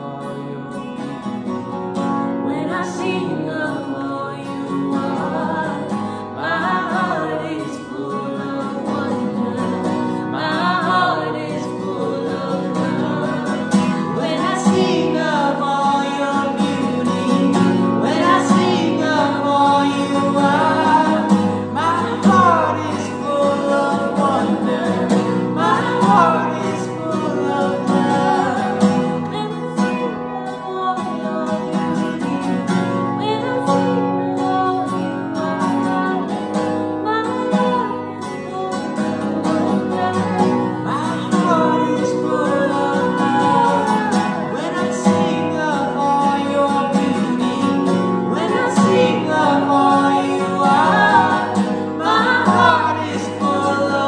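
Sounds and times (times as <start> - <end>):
strummed acoustic guitar: 0.0 - 54.0
group singing: 2.4 - 54.0.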